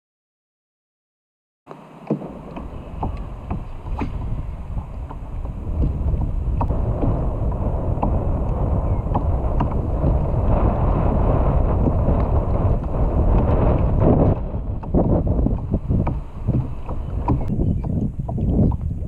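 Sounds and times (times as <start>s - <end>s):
water lapping against hull: 1.7s - 19.0s
wind buffeting microphone: 1.7s - 19.0s.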